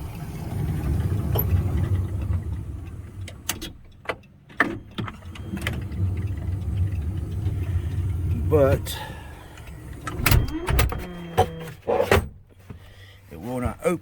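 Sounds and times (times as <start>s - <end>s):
sliding door clicks and clunks: 0.0s - 12.8s
minivan running low: 0.0s - 13.8s.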